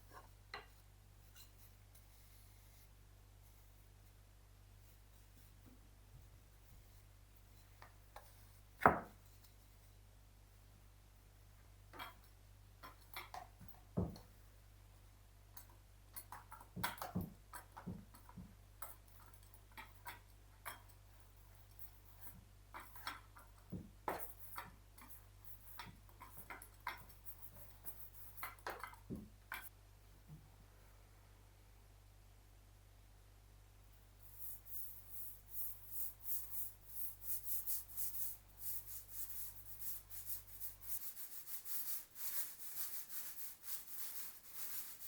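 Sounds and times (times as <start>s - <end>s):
faint low hum: 0.0s - 45.0s.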